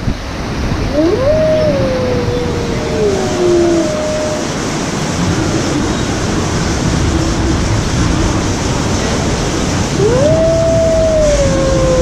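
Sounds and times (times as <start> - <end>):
white water rushing: 0.2 - 12.0.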